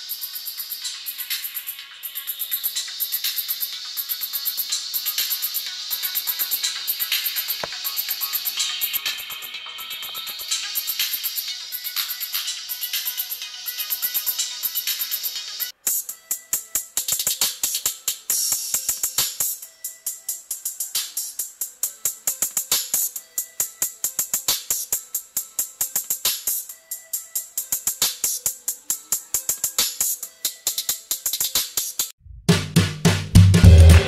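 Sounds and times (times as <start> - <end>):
thin music from small speaker: 0.0 - 34.0.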